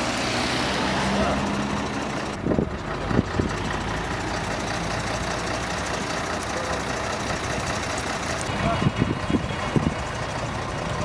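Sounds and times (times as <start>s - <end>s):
road noise: 0.0s - 11.0s
vehicle engines idling: 0.0s - 11.0s.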